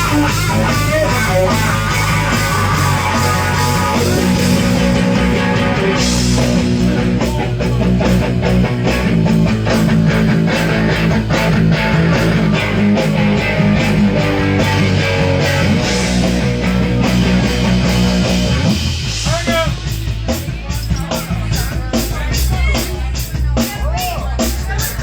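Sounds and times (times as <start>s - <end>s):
electric guitar: 0.0s - 23.7s
drum beat: 0.0s - 25.0s
rock band playing: 0.0s - 25.0s.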